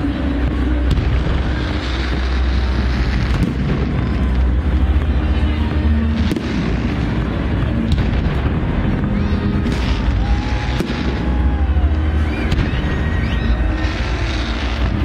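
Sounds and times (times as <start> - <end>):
fireworks rumbling and crackling: 0.0 - 15.0.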